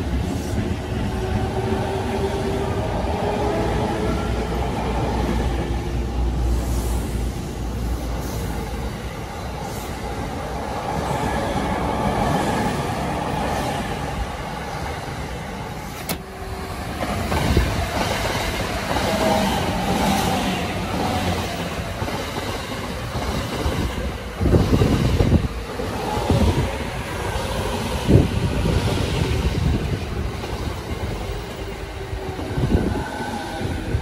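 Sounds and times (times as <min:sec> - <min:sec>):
train wheels running on rails: 0:00.0 - 0:34.0.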